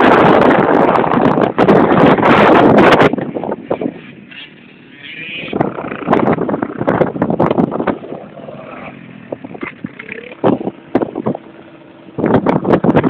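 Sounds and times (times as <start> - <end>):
quad bike engines running: 0.0 - 13.0
wind buffeting microphone: 0.0 - 13.0.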